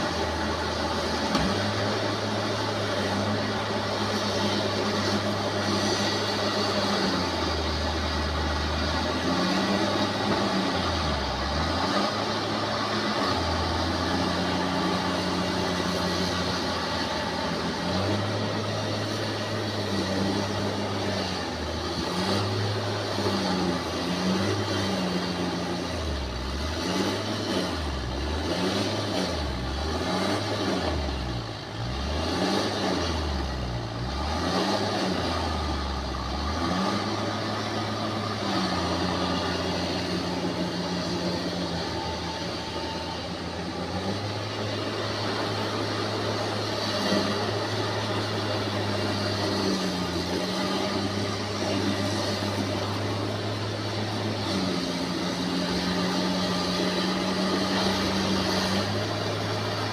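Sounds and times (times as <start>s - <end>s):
bulldozer diesel engine revving: 0.0s - 59.9s.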